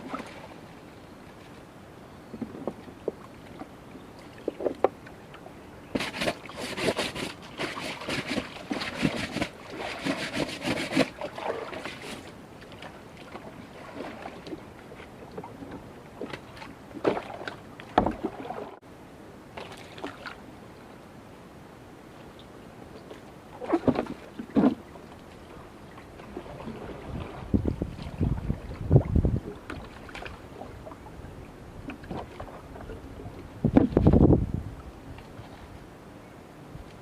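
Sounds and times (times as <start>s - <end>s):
water splashing and sloshing: 0.0s - 18.9s, 19.5s - 20.6s, 22.1s - 35.9s.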